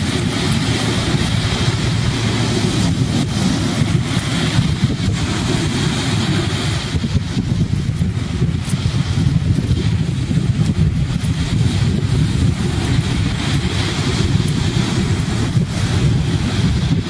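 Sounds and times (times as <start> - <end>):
ocean surf breaking: 0.0 - 17.0
wind noise on microphone: 0.0 - 17.0.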